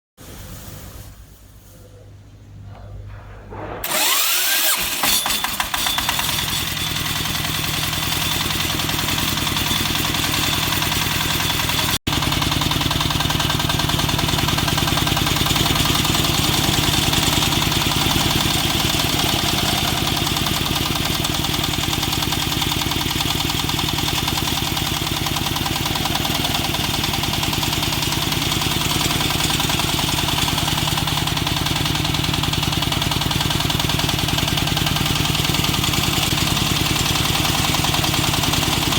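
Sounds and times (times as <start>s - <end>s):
drilling rig engine running: 3.0s - 38.9s.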